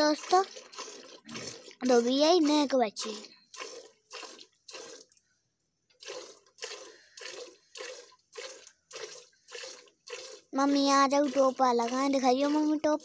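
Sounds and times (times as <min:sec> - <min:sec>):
milk squirting into steel bucket: 0:00.0 - 0:05.3, 0:05.9 - 0:13.0.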